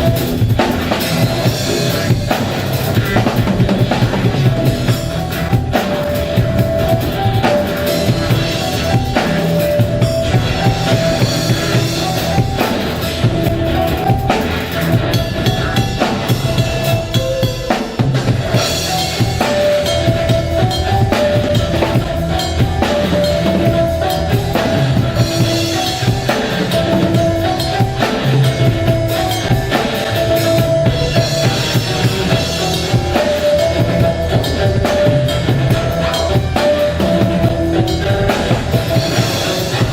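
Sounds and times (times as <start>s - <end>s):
drum kit steady beat: 0.0s - 39.9s
music with repeating melody and bass: 0.0s - 39.9s.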